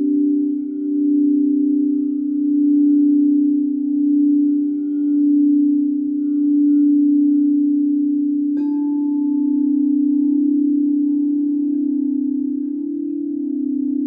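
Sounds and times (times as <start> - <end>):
singing bowls ringing: 0.0 - 14.0.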